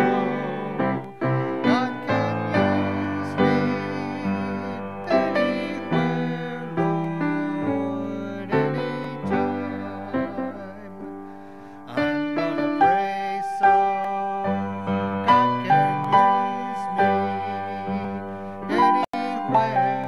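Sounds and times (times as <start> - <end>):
piano playing slow hymn: 0.0 - 20.0.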